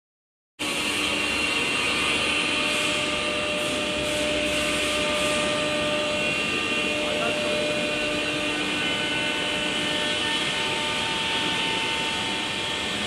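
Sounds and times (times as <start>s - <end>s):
cnc router whining: 0.6s - 13.0s.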